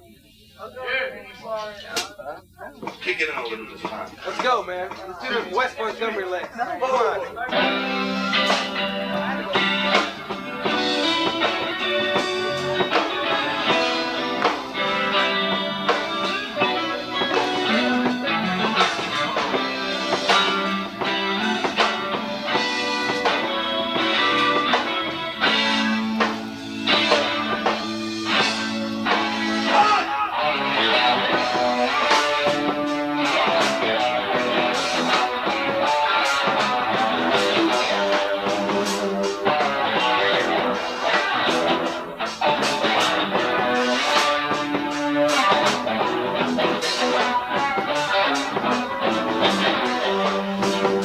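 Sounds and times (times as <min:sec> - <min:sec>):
drums: 0:00.0 - 0:51.0
bass guitar: 0:01.6 - 0:51.0
electric guitar: 0:01.6 - 0:51.0.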